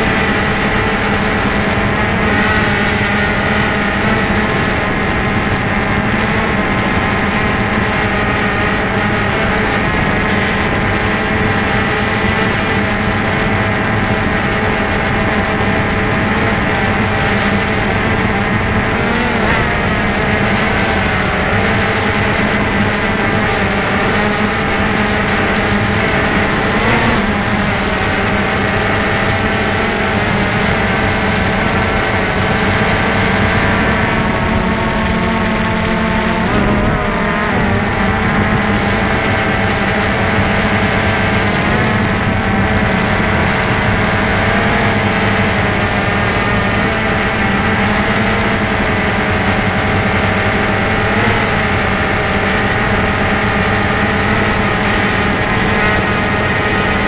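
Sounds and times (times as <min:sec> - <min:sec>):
drone motors whirring: 0:00.0 - 0:57.0.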